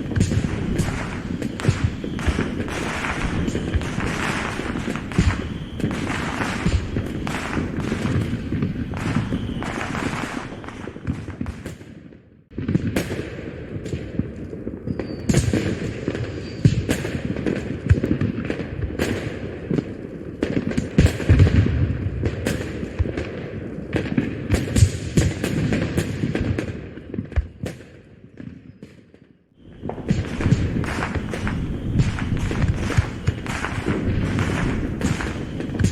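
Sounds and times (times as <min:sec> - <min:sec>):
fireworks bursting and crackling: 0:00.0 - 0:35.9.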